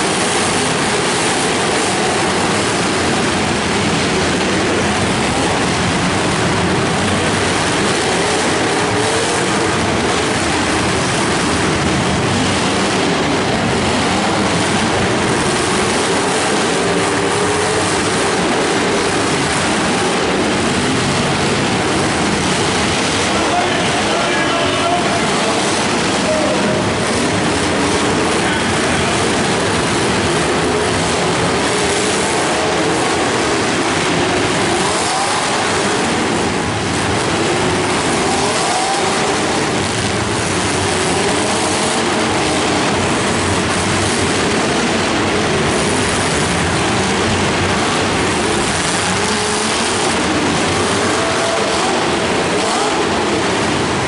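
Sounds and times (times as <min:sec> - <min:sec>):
many car engines revving: 0:00.0 - 0:54.0.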